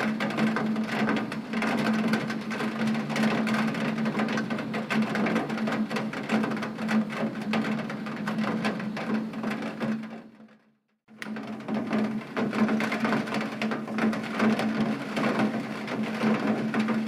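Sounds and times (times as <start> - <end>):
heavy rain on window: 0.0 - 10.3, 11.3 - 17.0.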